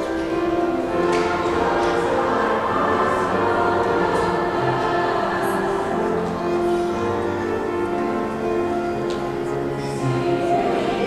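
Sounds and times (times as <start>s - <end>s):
choir singing held chords: 0.0s - 11.0s.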